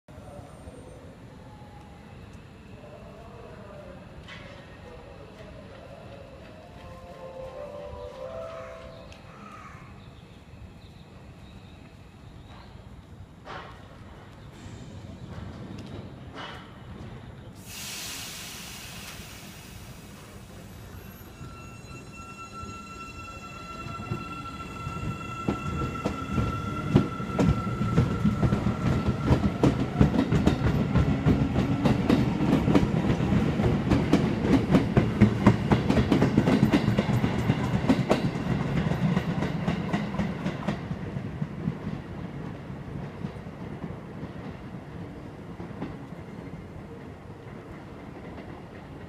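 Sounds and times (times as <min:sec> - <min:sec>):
train rumbling: 0:03.9 - 0:49.0.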